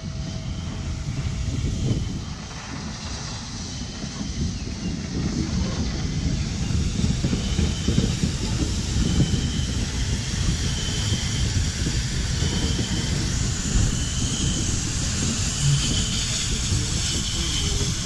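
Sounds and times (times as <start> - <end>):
steam hissing: 0.0 - 18.0
steam locomotive rumbling: 0.0 - 18.0.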